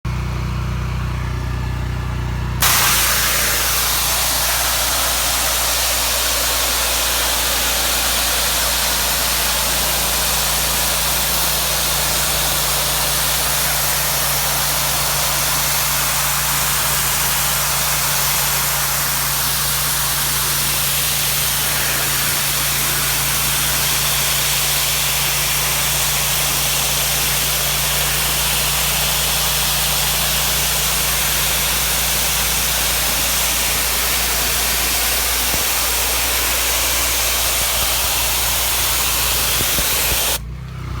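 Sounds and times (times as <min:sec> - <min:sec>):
pressure washer hum: 0:00.4 - 0:40.6
water spray hissing: 0:02.6 - 0:40.4.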